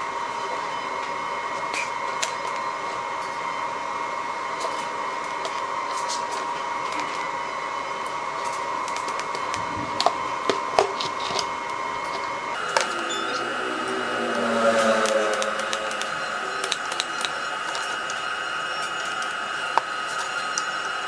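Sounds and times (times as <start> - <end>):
welder high-pitched hum: 0.0 - 21.0.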